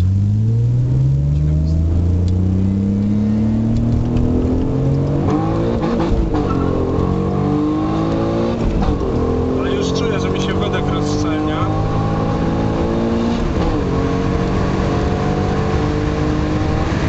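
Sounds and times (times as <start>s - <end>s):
car engine accelerating: 0.0s - 17.0s
gear change: 0.0s - 17.0s.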